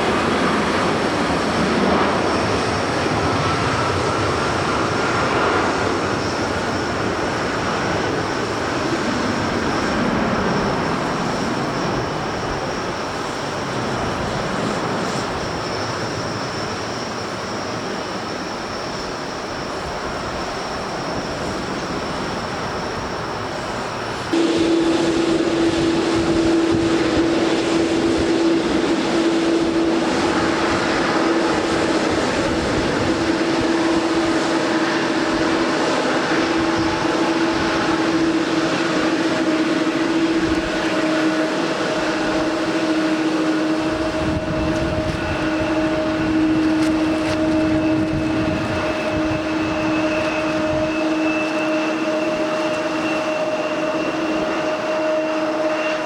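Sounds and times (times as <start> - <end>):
airliner engines humming: 0.0 - 56.0
constant rushing noise: 0.0 - 56.0
high engine whine: 0.0 - 56.0.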